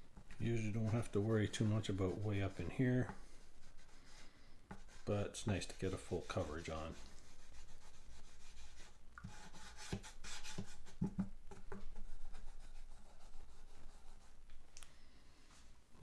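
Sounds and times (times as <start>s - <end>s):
cloth rag scrubbing fretboard: 0.1s - 14.4s.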